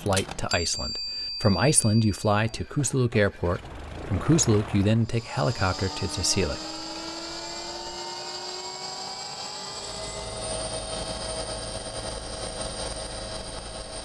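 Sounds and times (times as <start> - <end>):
helicopter hovering rumble: 0.0 - 14.0
helicopter engine whine inside cabin: 0.9 - 14.0.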